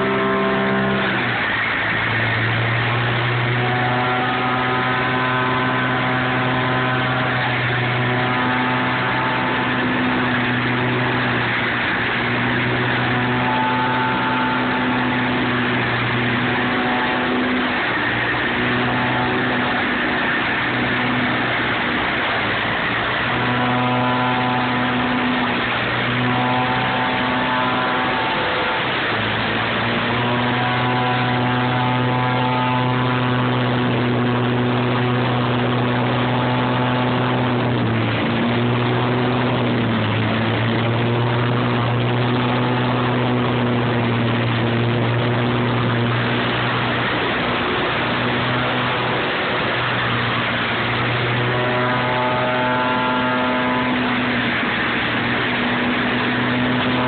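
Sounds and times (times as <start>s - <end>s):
leaf vacuum engine hum: 0.0s - 57.0s.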